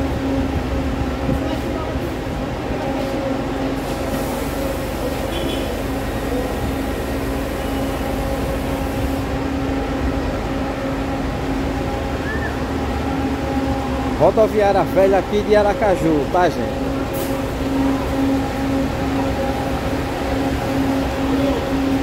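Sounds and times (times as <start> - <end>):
bus engines idling: 0.0 - 22.0.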